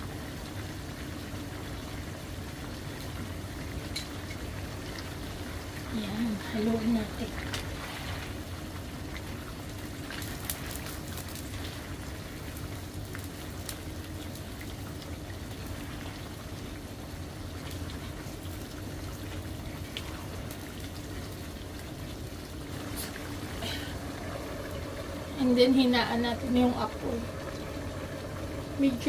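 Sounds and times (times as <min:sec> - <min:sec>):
sauce bubbling and crackling: 0:00.0 - 0:29.0.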